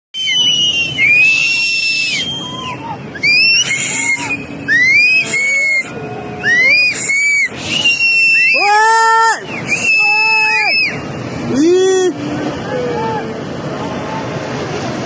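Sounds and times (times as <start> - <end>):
people screaming and shouting: 0.2 - 15.0
steady noisy rush: 0.2 - 15.0.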